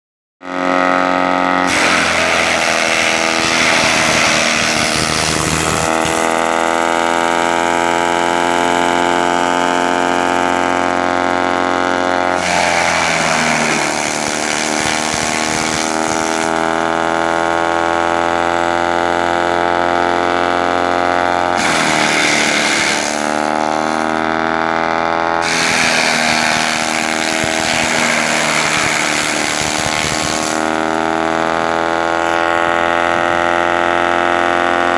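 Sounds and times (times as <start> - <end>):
shredder machine hum: 0.4 - 34.9.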